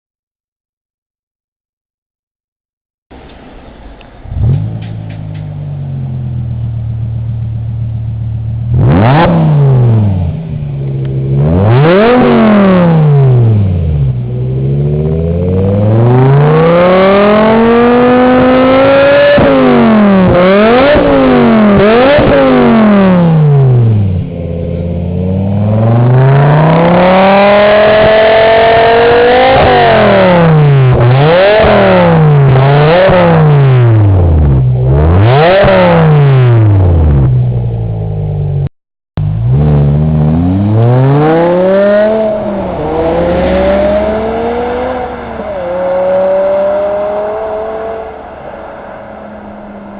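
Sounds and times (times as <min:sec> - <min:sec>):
car engine idling and revving: 0:03.1 - 0:49.9.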